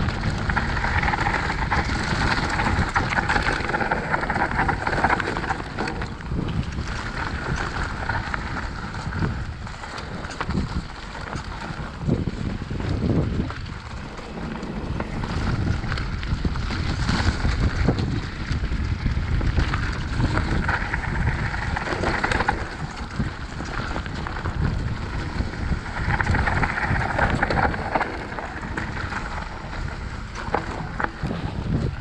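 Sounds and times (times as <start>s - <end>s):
bike knocks and rattles: 0.0s - 32.0s
wind buffeting microphone: 0.0s - 32.0s.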